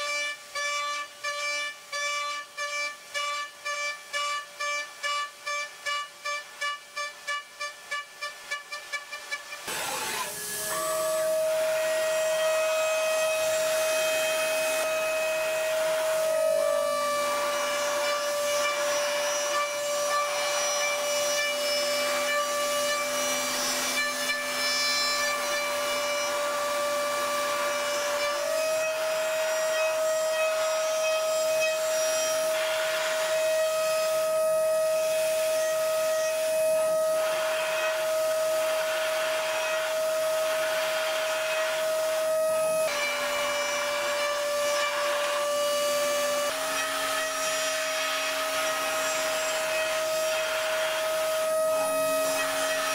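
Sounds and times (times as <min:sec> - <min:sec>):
cutting hiss: 0:00.0 - 0:52.9
machine tool motor whining: 0:08.4 - 0:52.9.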